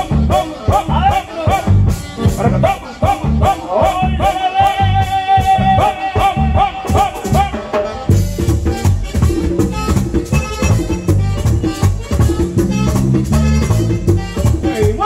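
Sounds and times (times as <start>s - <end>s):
band playing: 0.0s - 15.0s
drum beat: 0.0s - 15.0s.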